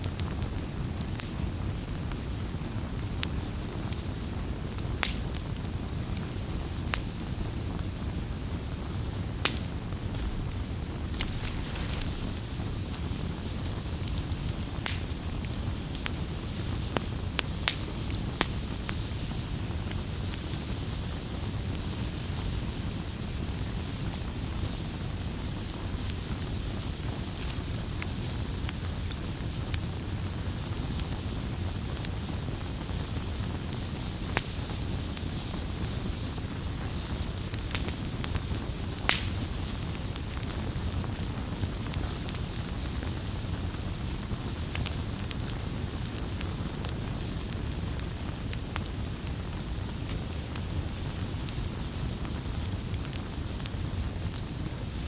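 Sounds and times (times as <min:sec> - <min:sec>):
campfire crackling: 0:00.0 - 0:55.0
low rumble of burning wood: 0:00.0 - 0:55.0
sharp pops from fire: 0:00.0 - 0:55.0.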